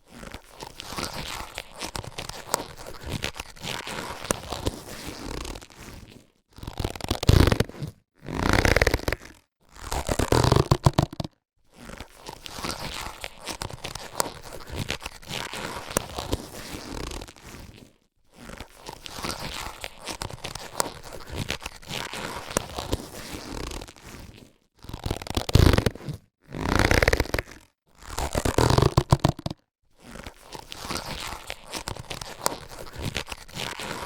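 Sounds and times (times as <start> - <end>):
latex gloves crackling: 0.0 - 34.0.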